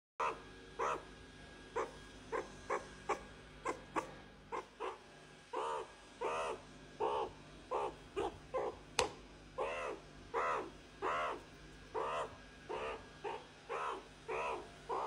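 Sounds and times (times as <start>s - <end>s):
meerkat calling: 0.2s - 1.1s, 1.7s - 15.0s.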